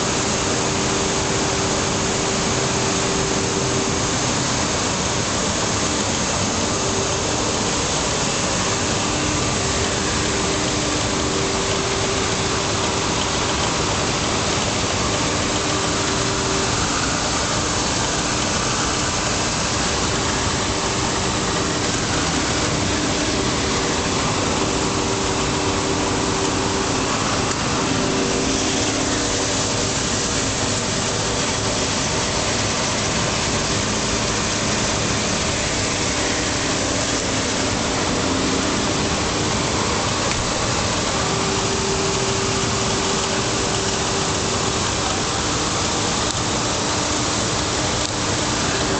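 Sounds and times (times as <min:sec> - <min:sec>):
faint steady hum: 0:00.0 - 0:48.9
hiss-like machinery din: 0:00.0 - 0:48.9.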